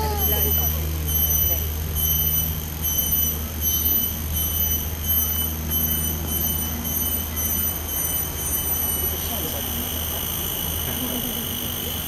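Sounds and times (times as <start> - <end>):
high-pitched insect trill: 0.0 - 12.0
steady low hum: 0.0 - 12.0.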